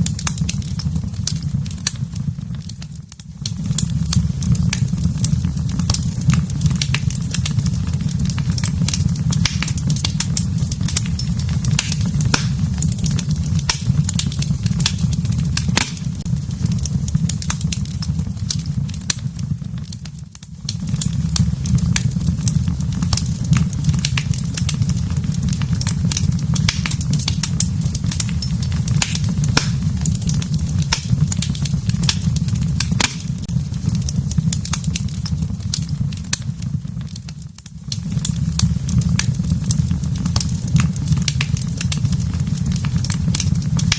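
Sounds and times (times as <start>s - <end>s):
fire burning in fireplace: 0.0s - 43.9s
fire crackles and pops: 0.0s - 43.9s.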